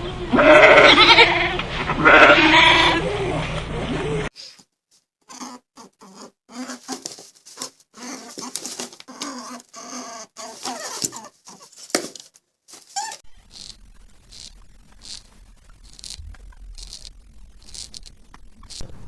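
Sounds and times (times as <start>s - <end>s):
animal squeaking and bleating: 0.3s - 3.2s, 5.3s - 12.0s, 12.8s - 19.0s.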